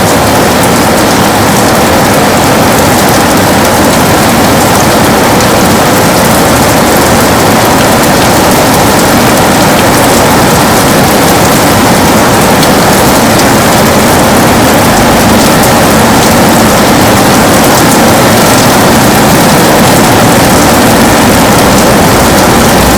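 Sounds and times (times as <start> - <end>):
heavy rain on a window: 0.0 - 22.9.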